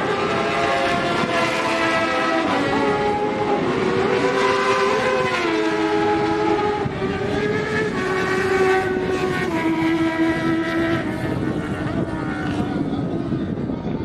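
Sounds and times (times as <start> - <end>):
motorcycle engines revving high: 0.0 - 13.8.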